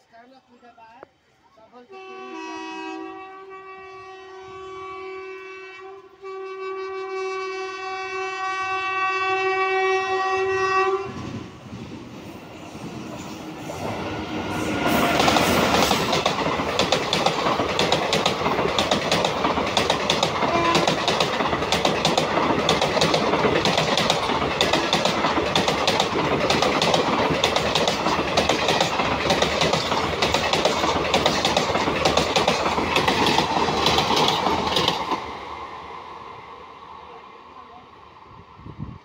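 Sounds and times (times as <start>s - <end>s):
freight train rumbling: 1.9s - 39.0s.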